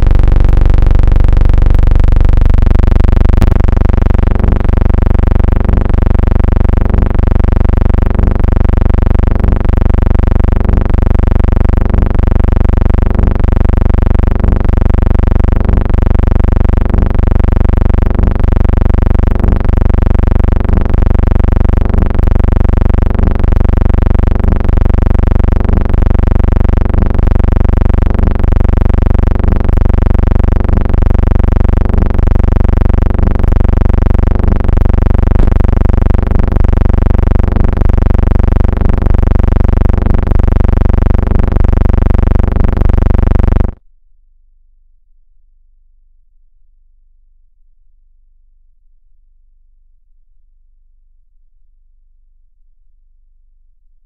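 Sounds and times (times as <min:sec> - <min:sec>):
loud droning tones: 0:00.0 - 0:43.8.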